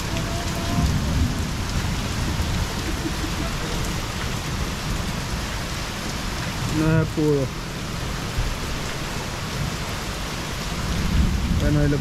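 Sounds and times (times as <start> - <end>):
steady downpour of rain: 0.0 - 12.0.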